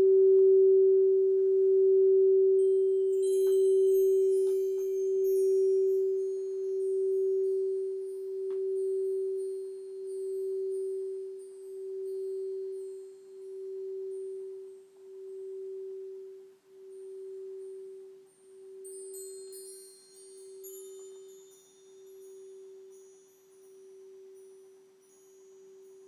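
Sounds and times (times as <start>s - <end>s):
singing bowl sustained tone: 0.0s - 26.0s
faint high chime notes: 2.6s - 26.0s.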